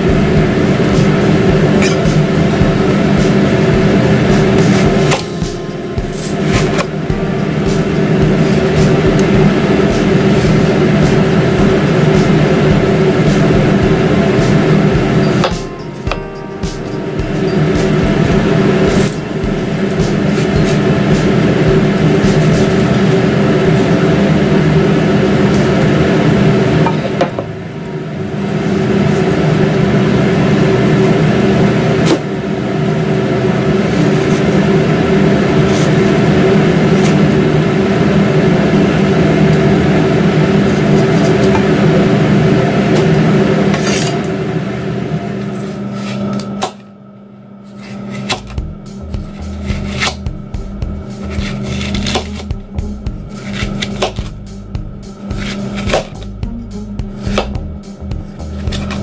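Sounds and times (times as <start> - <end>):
kitchen appliance humming: 0.0 - 59.0.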